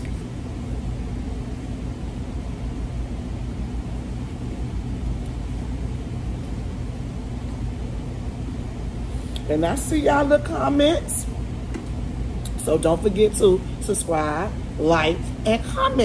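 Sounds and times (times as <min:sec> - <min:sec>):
faint droning hum: 0:00.0 - 0:16.0
low background rumble: 0:00.0 - 0:16.0.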